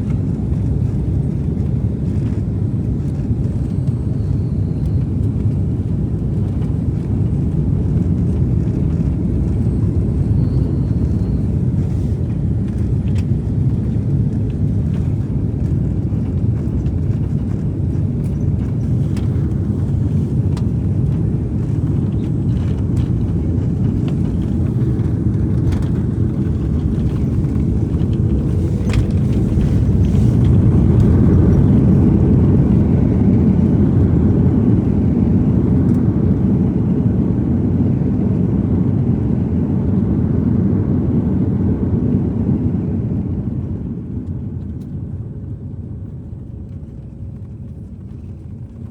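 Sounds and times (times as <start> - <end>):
airliner engine rumble in cabin: 0.0 - 48.9.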